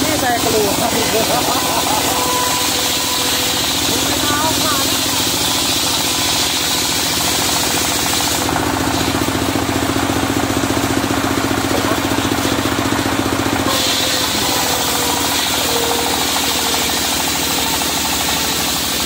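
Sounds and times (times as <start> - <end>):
saw blade cutting wood: 0.0 - 19.0
sawmill engine knocking: 0.0 - 19.0.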